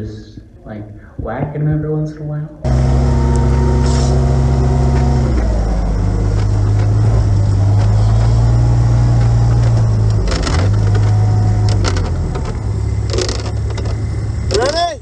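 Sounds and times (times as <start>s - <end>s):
car engine and road noise: 2.6s - 15.0s.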